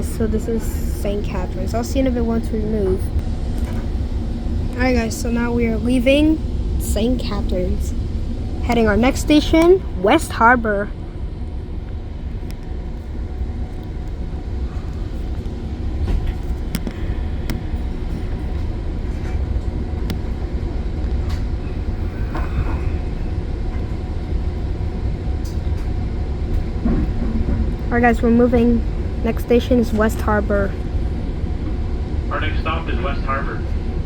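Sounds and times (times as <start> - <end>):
train low rumble: 0.0 - 34.0.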